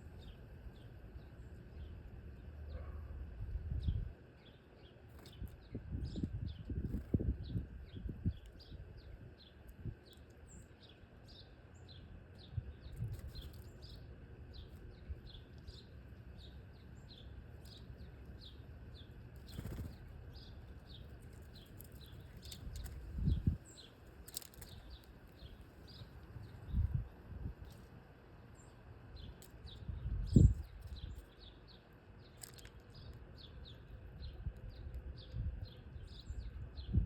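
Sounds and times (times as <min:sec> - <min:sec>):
small bird chirping: 0:00.1 - 0:27.9, 0:28.5 - 0:37.0.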